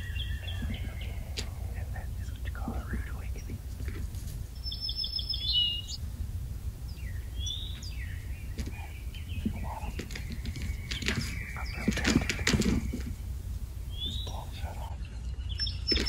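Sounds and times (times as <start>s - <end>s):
birds chirping and trilling: 0.0s - 16.0s
rapid rattling bird calls: 0.0s - 16.0s.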